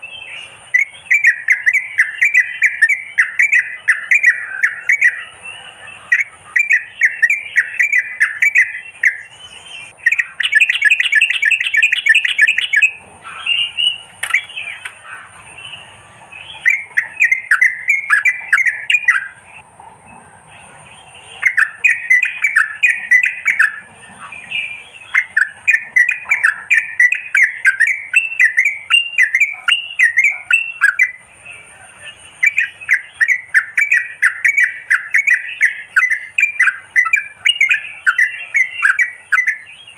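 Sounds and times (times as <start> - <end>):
bird chattering calls: 0.0 - 39.9
faint high whine: 0.0 - 39.9.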